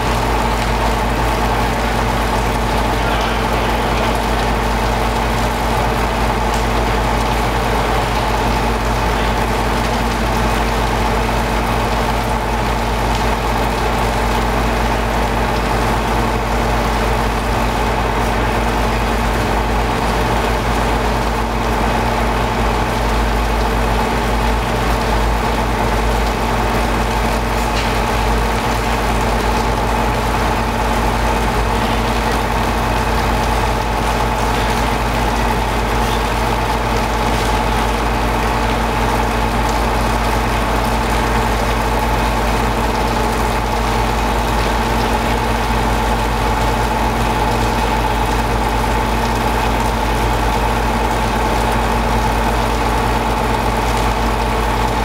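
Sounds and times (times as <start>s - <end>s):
heavy engine idling: 0.0s - 55.0s.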